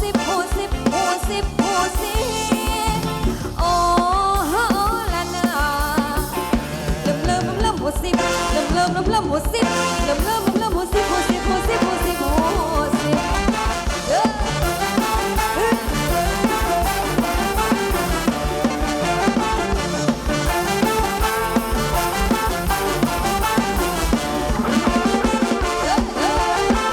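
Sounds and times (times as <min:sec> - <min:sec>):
live dance band over pa: 0:00.0 - 0:26.9.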